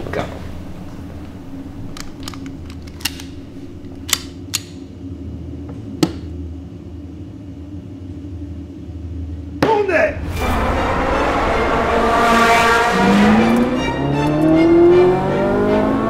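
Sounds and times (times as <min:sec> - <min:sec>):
low steady hum: 0:00.0 - 0:14.4.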